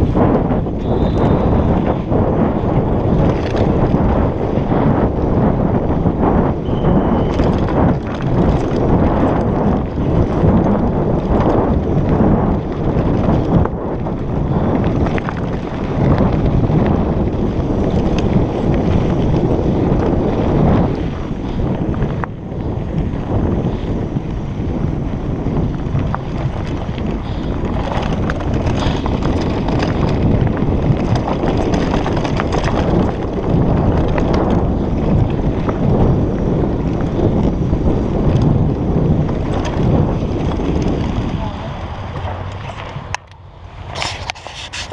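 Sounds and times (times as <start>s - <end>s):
bike clicks and rattles: 0.0s - 44.9s
wind rush on microphone: 0.0s - 44.9s
tyre rumble on dirt: 6.3s - 43.1s.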